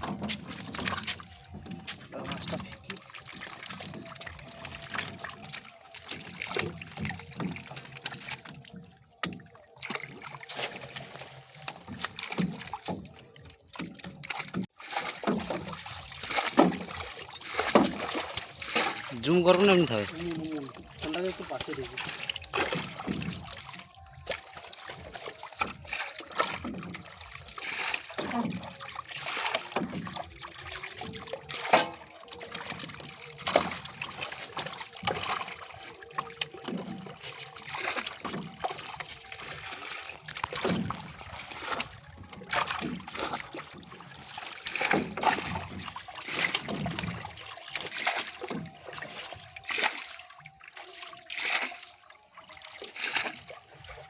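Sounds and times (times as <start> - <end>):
water splashing and sloshing: 0.0 - 54.0
water trickling: 0.0 - 54.0.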